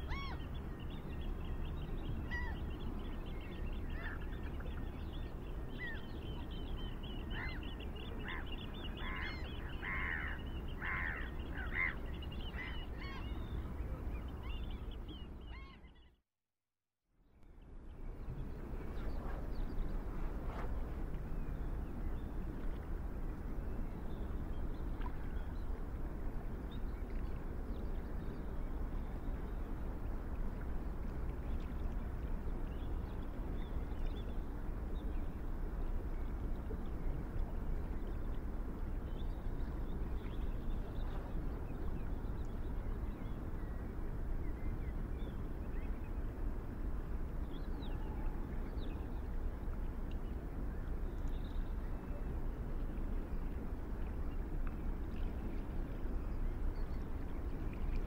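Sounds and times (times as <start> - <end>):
low outdoor ambient rumble: 0.0 - 16.2, 17.1 - 58.0.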